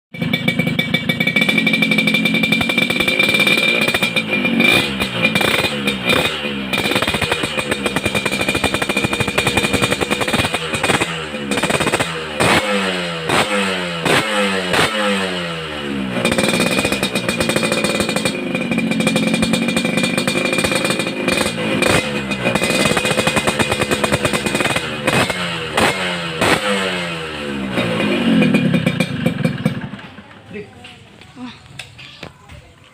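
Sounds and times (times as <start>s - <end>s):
two-stroke motorcycle revving: 0.1s - 30.6s.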